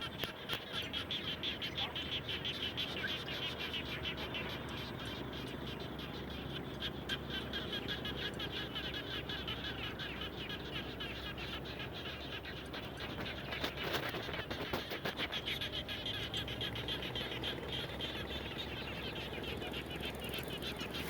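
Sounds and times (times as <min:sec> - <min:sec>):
chorus of frogs calling: 0:00.0 - 0:21.0
low background rumble: 0:00.0 - 0:21.0.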